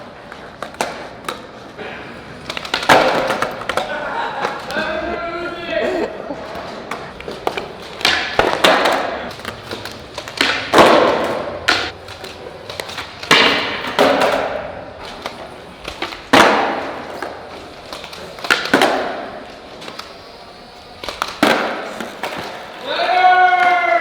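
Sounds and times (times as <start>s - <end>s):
skateboard clacks: 0.0s - 5.0s, 6.4s - 24.0s
skateboard wheels rolling: 0.0s - 24.0s.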